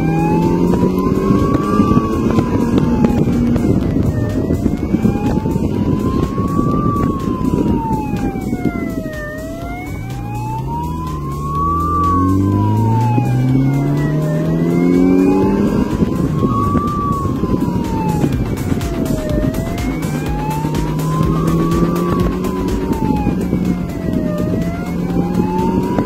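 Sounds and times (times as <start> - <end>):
motorcycle engine: 0.0 - 26.0
police siren wailing: 0.0 - 26.0
wind noise: 0.0 - 26.0.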